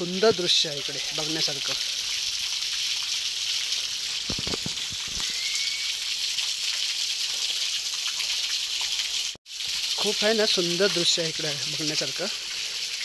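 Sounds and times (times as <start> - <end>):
water hissing: 0.0 - 13.0.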